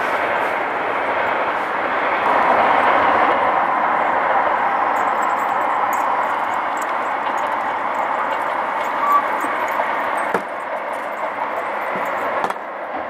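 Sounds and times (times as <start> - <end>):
train rushing past: 0.0 - 13.0.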